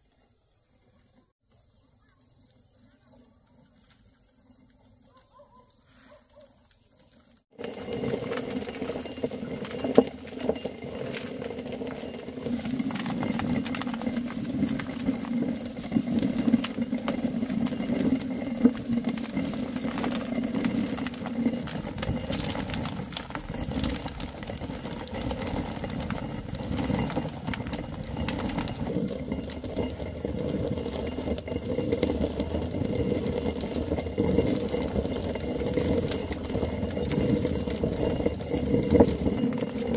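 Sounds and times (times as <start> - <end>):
faint crickets: 0.0 - 39.9
machine running with clatter: 7.5 - 39.9.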